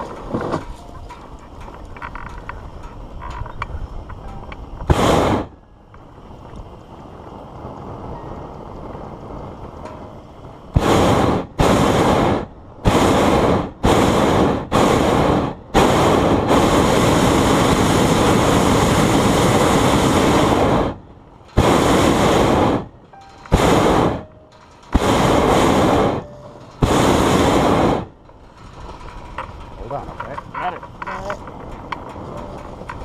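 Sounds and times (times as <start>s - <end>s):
propane burner blasts: 0.0s - 33.0s.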